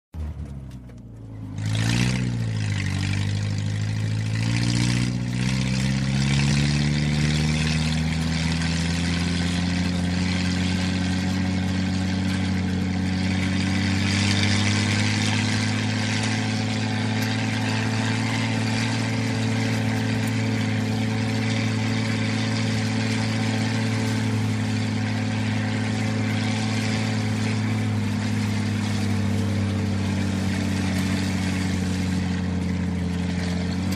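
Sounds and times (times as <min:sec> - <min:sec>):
car engine accelerating: 0:00.2 - 0:33.9.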